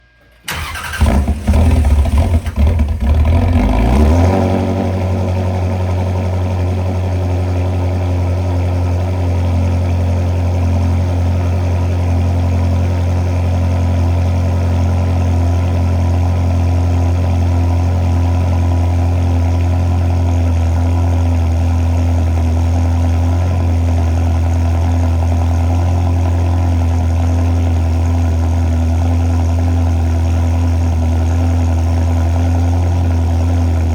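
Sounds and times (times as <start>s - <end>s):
car engine starting and idling: 0.2s - 33.9s.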